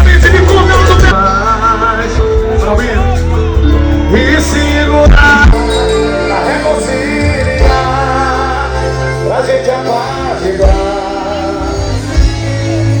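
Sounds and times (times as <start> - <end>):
held sung melody: 0.0 - 13.0
live band music: 0.0 - 13.0.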